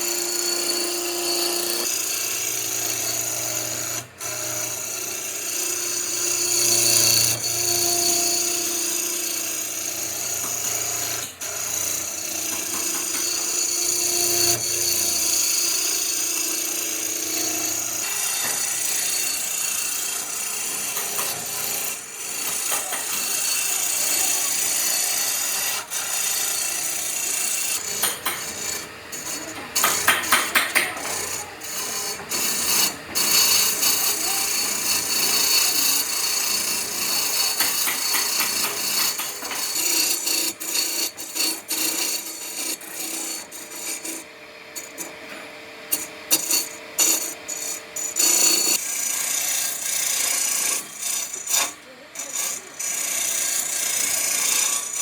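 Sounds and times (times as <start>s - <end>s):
tool scraping wood: 0.0s - 55.0s.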